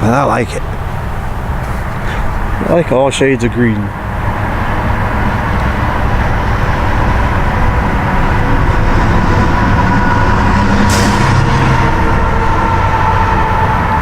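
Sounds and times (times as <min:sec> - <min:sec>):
vehicle engine and tyre rumble: 0:00.0 - 0:14.0.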